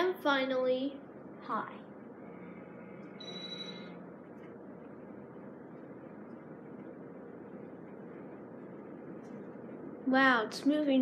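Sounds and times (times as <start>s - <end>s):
ceiling fan air whoosh: 0.0s - 11.0s
faint motor hum: 0.0s - 11.0s
high-pitched electrical hum: 0.0s - 11.0s.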